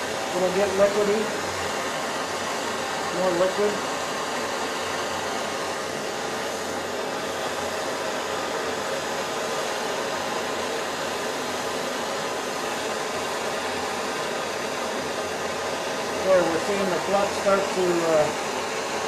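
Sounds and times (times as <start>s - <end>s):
gas torch flame hissing: 0.0s - 19.0s.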